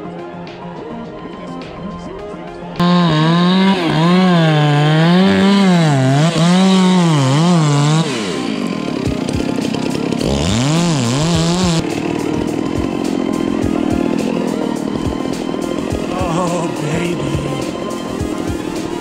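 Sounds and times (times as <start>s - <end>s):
chainsaw revving: 2.8s - 19.0s.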